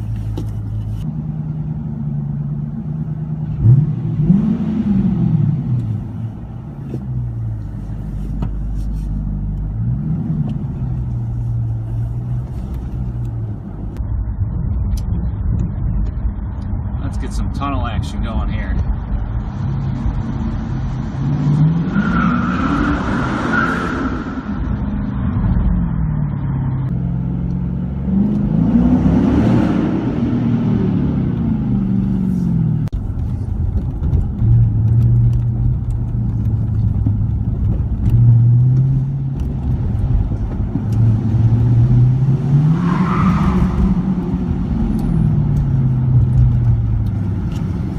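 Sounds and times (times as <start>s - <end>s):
car engine revving and idling: 0.0s - 47.9s.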